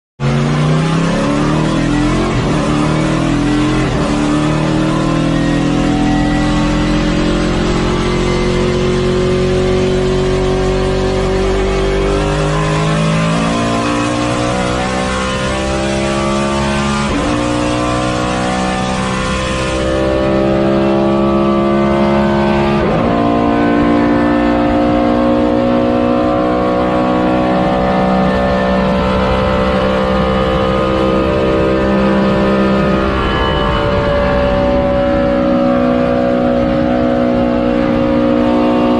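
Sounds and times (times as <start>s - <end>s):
car engine accelerating: 0.2s - 38.9s.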